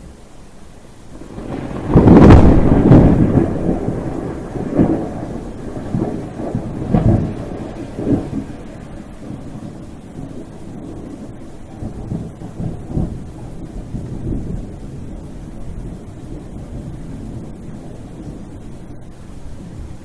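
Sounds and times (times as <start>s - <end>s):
steady rain: 0.0s - 20.0s
thunderclap: 1.1s - 20.0s.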